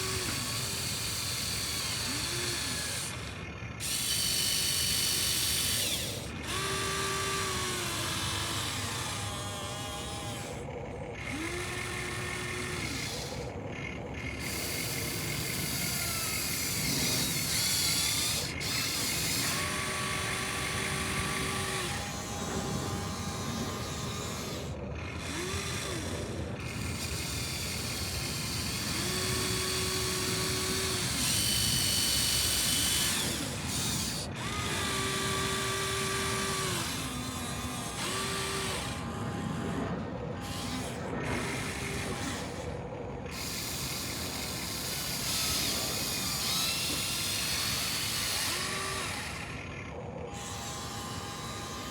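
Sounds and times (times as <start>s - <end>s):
electric gear motor whine: 0.0s - 51.9s
rough gear noise: 0.0s - 51.9s.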